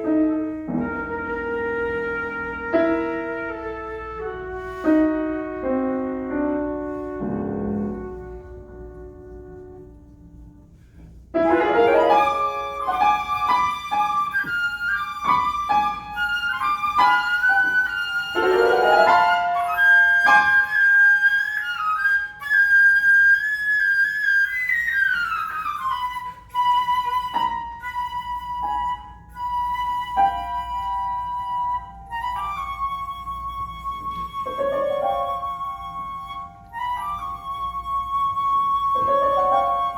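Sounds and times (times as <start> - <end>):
piano notes: 0.0 - 23.1, 25.0 - 39.9
flute melody: 0.0 - 39.9.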